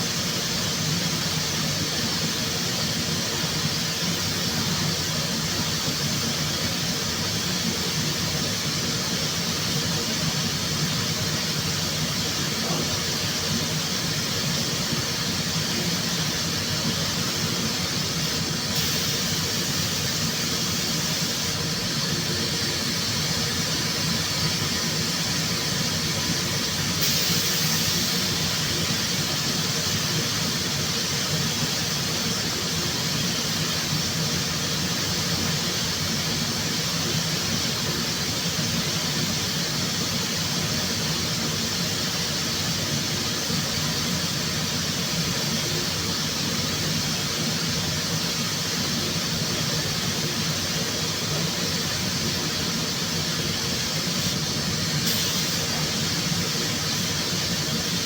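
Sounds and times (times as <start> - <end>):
compressed air hiss: 0.0 - 58.0.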